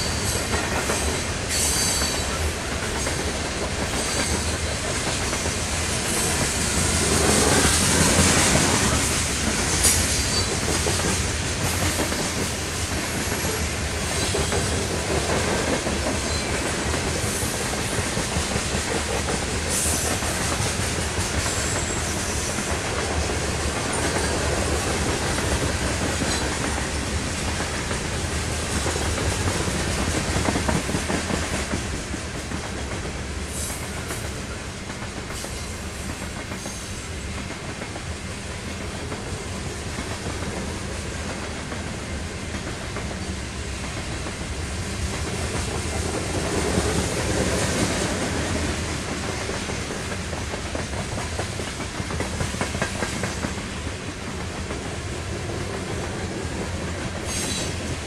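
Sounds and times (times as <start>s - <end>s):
freight train wheels rumbling and clacking: 0.0s - 58.0s.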